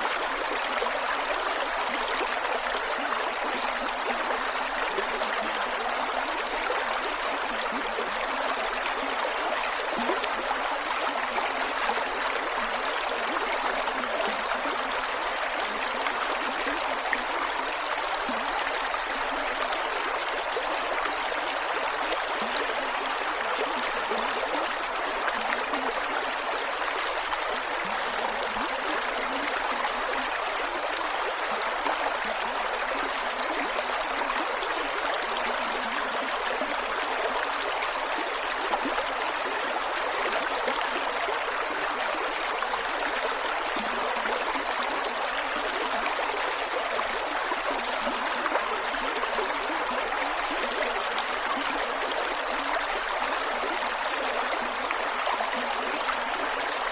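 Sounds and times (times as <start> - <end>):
creek water flowing over rocks: 0.0 - 56.9.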